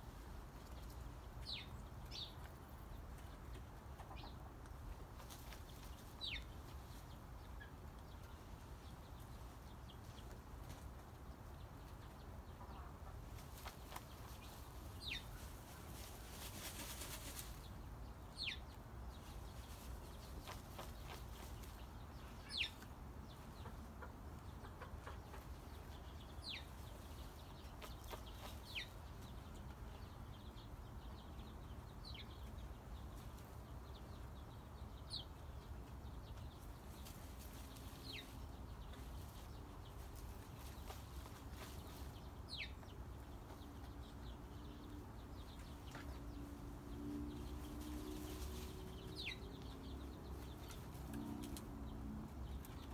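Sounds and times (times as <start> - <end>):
hens rustling sand with wings: 0.0 - 52.9.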